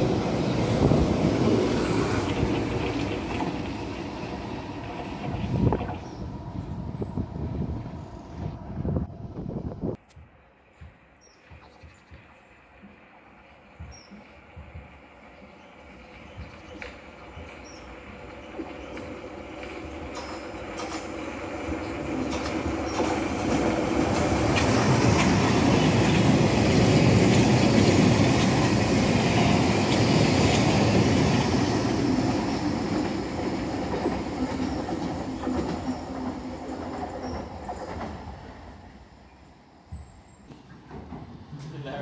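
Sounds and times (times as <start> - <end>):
underground train passing: 0.0 - 42.0.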